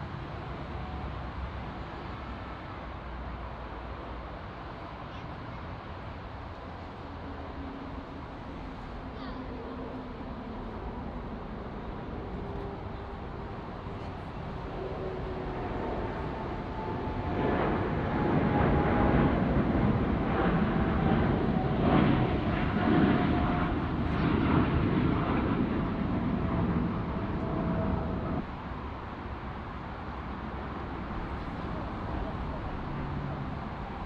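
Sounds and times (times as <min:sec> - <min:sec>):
jet airliner engine rumble: 0:00.0 - 0:34.0
jet engine whine: 0:00.0 - 0:34.0.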